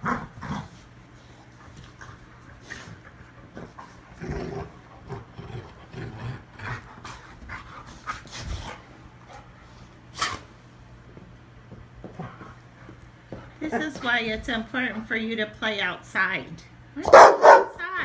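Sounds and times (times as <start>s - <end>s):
dogs playing noisily: 0.0s - 15.6s, 16.8s - 17.9s.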